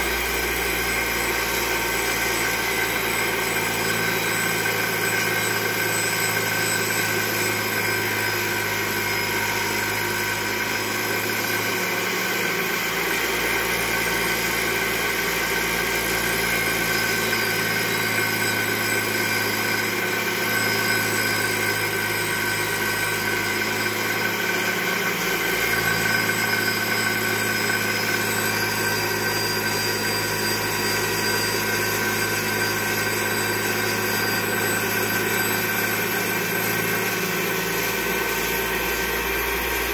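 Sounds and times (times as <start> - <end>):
grinder motor whine: 0.0 - 39.9
grinding wheel on steel: 0.0 - 39.9.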